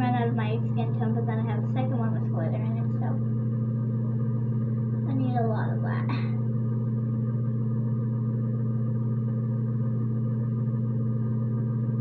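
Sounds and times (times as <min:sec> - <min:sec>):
fan or appliance drone: 0:00.0 - 0:12.0.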